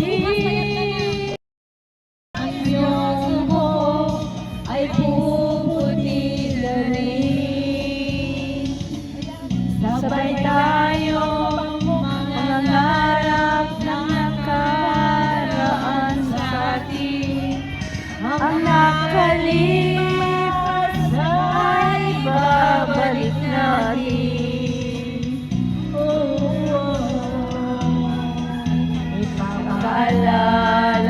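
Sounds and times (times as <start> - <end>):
song with sung vocals: 0.0 - 1.4, 2.4 - 31.0.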